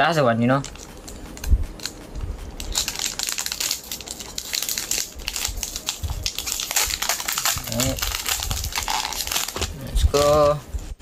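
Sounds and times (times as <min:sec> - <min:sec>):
foil wrapper crinkling: 0:00.6 - 0:10.9.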